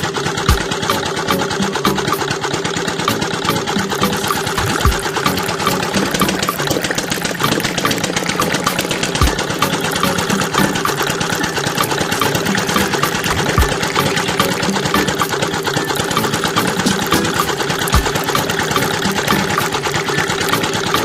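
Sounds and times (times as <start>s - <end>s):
fast even rattle: 0.0s - 21.0s
small motor running: 0.0s - 21.0s.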